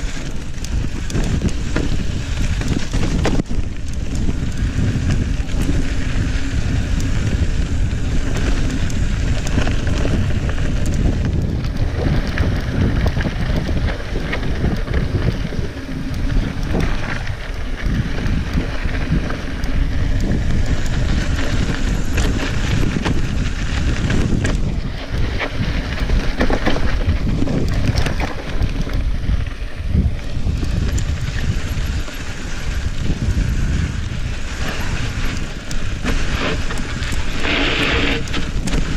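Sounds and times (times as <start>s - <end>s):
bike rattling over bumps: 0.0s - 38.9s
wind buffeting microphone: 0.0s - 38.9s.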